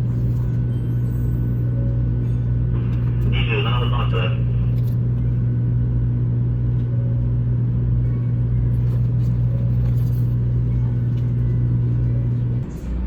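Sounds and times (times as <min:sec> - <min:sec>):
steady low hum: 0:00.0 - 0:13.0
vehicle rumbling: 0:00.0 - 0:13.0.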